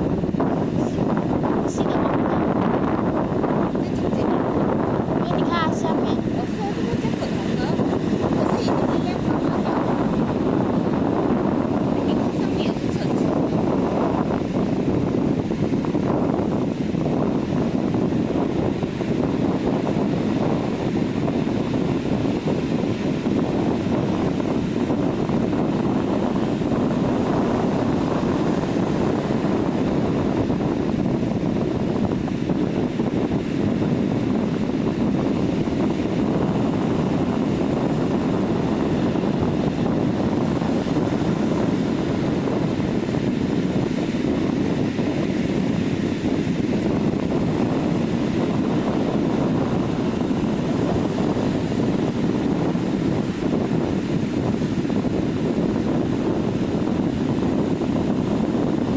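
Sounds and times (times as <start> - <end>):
ocean surf on sandy beach: 0.0 - 58.9.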